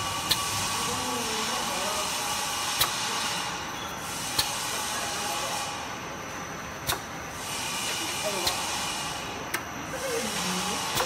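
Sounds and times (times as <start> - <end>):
machine hissing: 0.0 - 6.1, 6.8 - 11.0.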